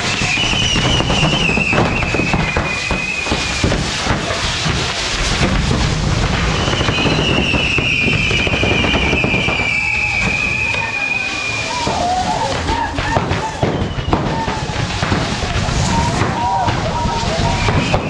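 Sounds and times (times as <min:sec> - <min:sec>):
fireworks crackling and popping: 0:00.0 - 0:18.0
high firework whistle: 0:00.0 - 0:18.0.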